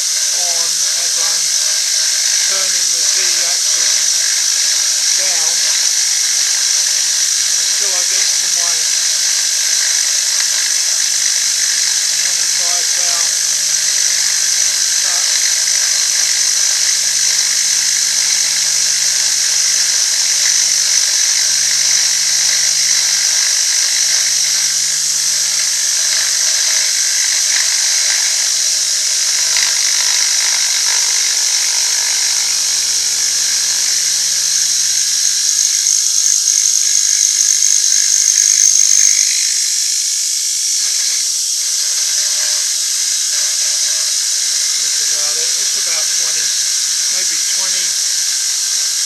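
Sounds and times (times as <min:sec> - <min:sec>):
milling machine cutting metal: 0:00.0 - 0:39.6
spindle hum: 0:00.0 - 0:49.0.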